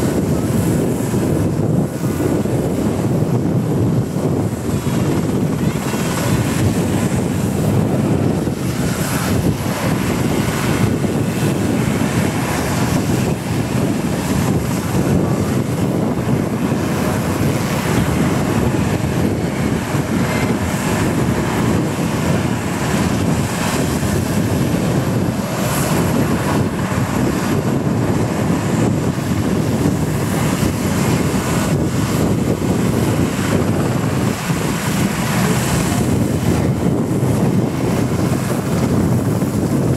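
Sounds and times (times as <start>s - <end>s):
helicopter rotor blades turning: 0.0s - 39.9s.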